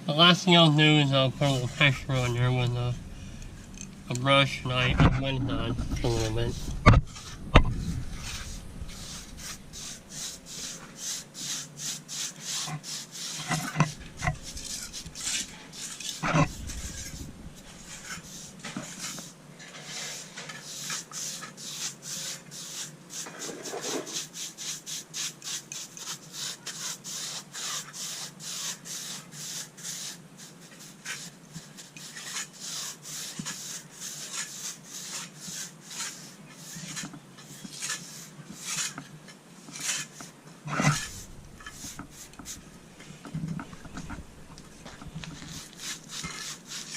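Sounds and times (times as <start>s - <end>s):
stiff brush scratching cement: 0.2s - 2.9s, 4.1s - 46.9s.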